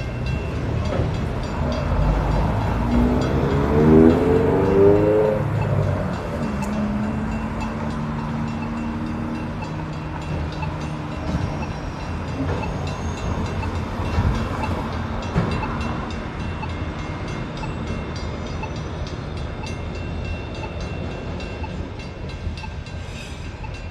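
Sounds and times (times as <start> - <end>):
engine hum: 0.0 - 22.4
train wheels rumbling on rails: 0.0 - 23.9.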